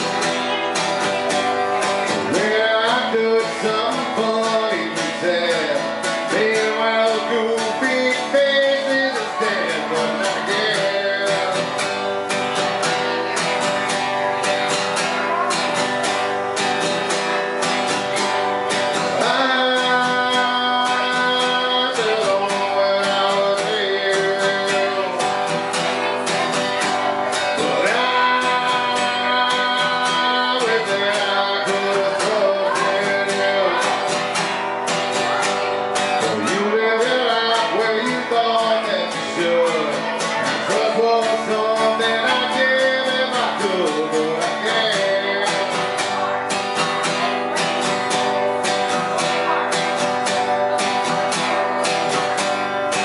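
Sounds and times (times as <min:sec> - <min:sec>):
acoustic guitar strumming: 0:00.0 - 0:53.0
man singing: 0:00.0 - 0:53.0.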